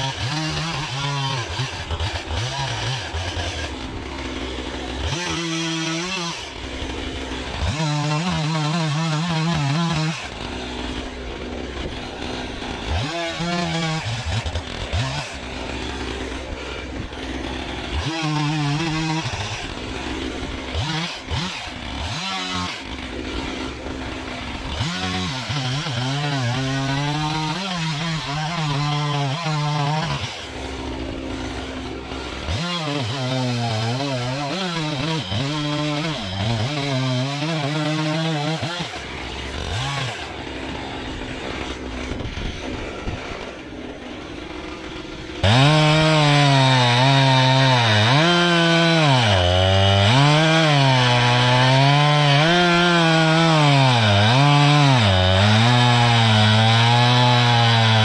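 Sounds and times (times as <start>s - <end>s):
chainsaw idling and revving: 0.0s - 58.0s.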